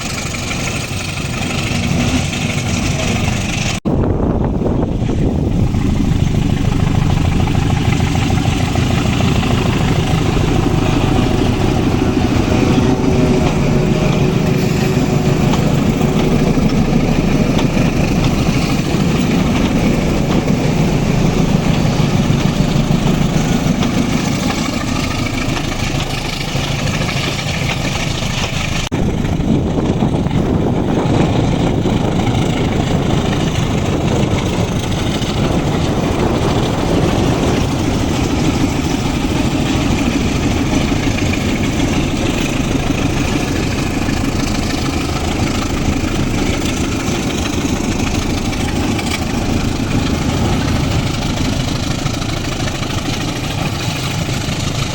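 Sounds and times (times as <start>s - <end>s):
locomotive engine rumble: 0.0s - 54.9s.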